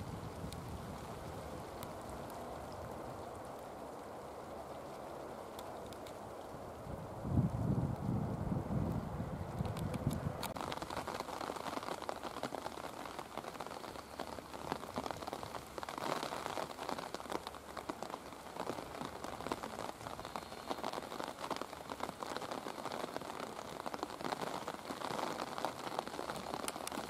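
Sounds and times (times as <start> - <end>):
raindrops ticking on surface: 0.0 - 27.0.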